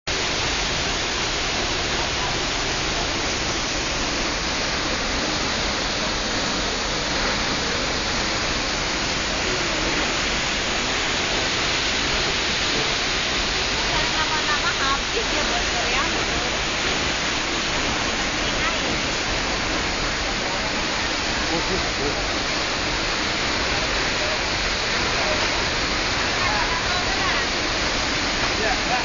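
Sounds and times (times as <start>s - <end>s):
waterfall rushing: 0.1s - 29.0s.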